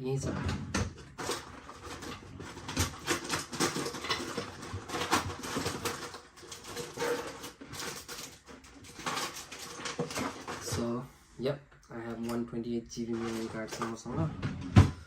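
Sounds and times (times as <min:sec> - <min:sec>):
small items rustling and clicking: 0:00.3 - 0:11.0, 0:12.1 - 0:14.2.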